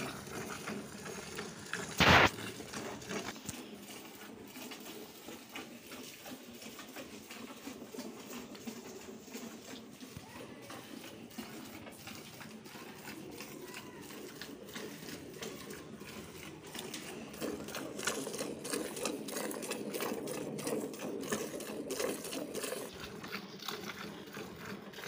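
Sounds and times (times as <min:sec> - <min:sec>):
milk squirting into plastic bucket: 0:00.0 - 0:25.0.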